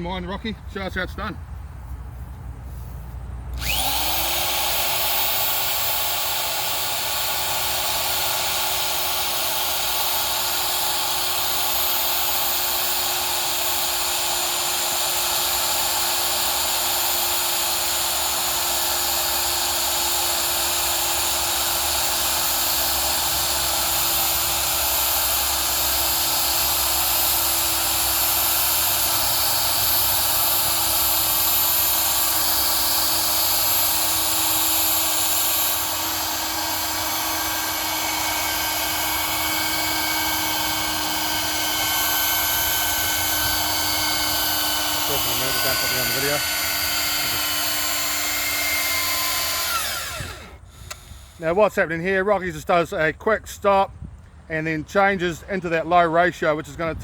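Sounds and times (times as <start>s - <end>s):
ground screw machine motor whine: 3.5s - 51.8s.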